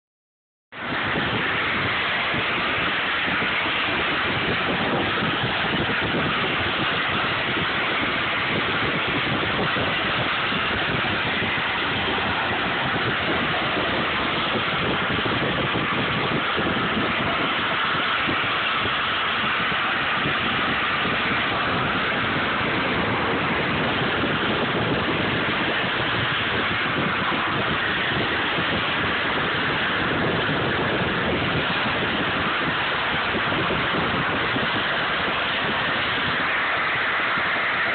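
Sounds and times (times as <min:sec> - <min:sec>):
wind rushing on microphone: 0:00.7 - 0:37.9
car road noise: 0:00.8 - 0:37.9.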